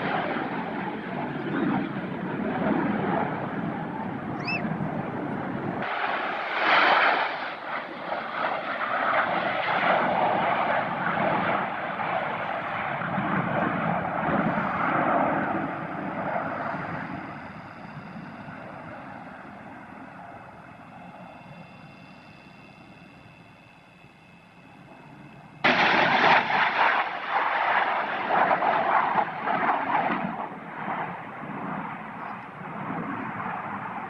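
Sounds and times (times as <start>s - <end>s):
aircraft flying past: 0.0s - 34.0s.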